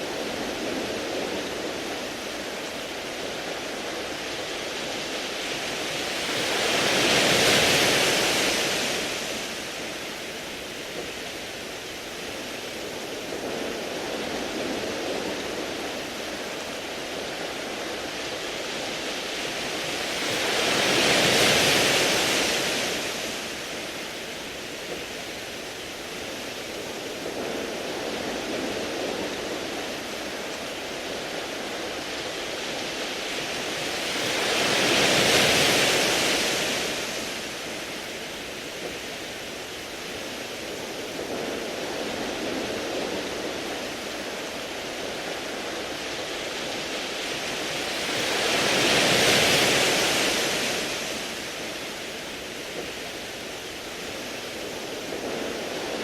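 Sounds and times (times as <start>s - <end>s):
waves washing over pebbles: 0.0s - 56.0s.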